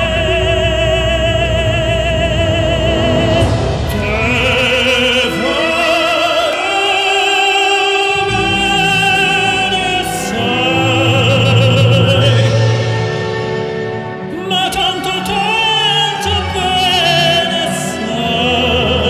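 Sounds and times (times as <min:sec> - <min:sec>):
slow orchestral ballad music: 0:00.0 - 0:19.0.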